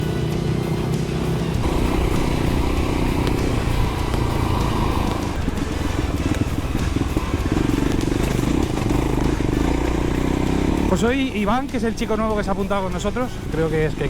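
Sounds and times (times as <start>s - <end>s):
motorcycle engine droning: 0.0s - 14.0s.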